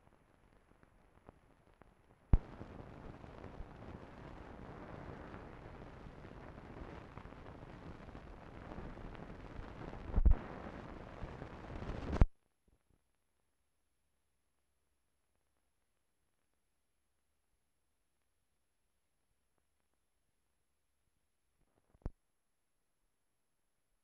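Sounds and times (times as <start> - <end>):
film soundtrack hiss and crackle: 0.0 - 22.3.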